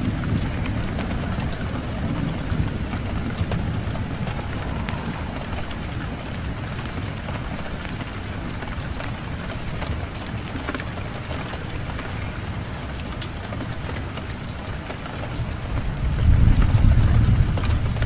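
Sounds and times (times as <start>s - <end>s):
fire crackling and popping: 0.0s - 18.0s
low rumble of wind: 0.0s - 18.0s.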